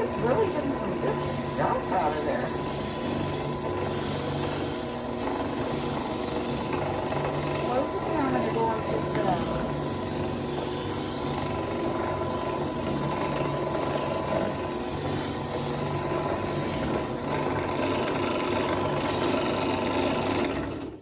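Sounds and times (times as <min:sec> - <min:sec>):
sanding ball rasping gourd: 0:00.0 - 0:20.7
drill press motor hum: 0:00.0 - 0:21.0.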